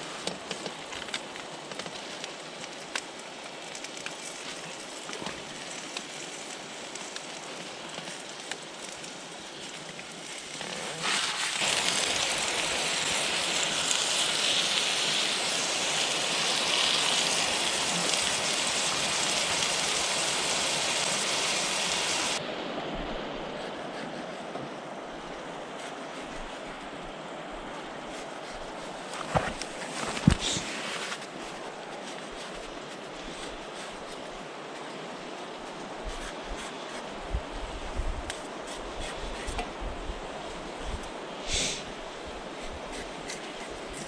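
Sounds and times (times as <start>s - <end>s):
steady rain hissing: 0.0s - 44.0s.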